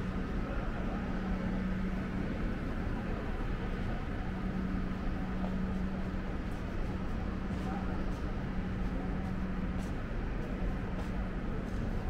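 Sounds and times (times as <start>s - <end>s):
urban background noise: 0.0s - 12.0s.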